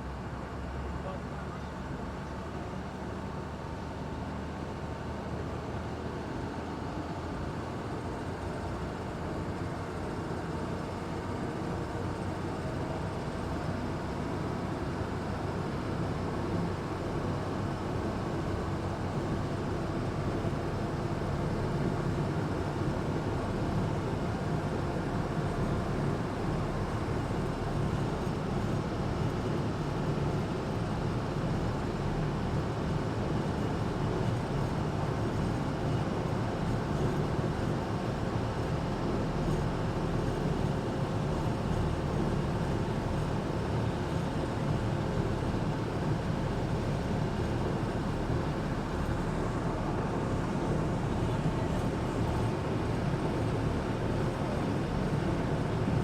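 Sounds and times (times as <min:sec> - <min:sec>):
boat engine low drone: 0:00.0 - 0:56.0.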